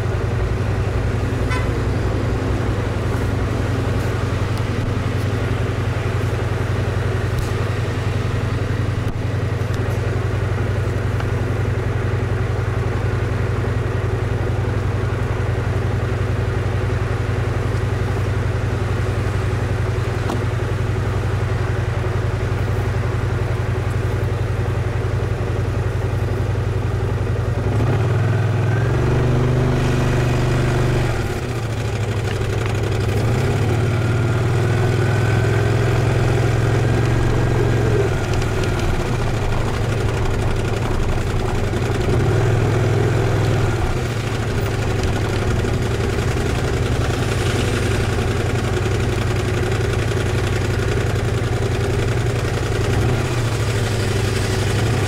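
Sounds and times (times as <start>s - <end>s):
scooter engine idling and pulling away: 0.0s - 55.0s.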